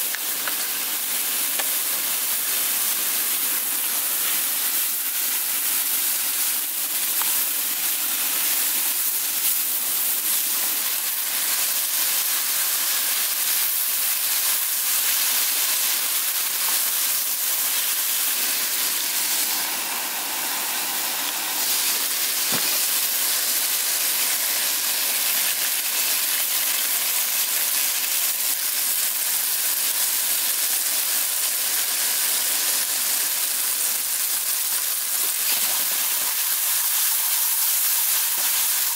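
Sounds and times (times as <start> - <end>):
mushrooms sizzling in frying pan: 0.0 - 38.9.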